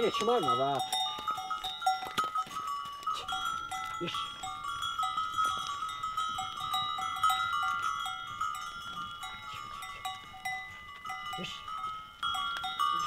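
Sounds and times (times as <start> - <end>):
cow bells clanking: 0.0 - 13.0.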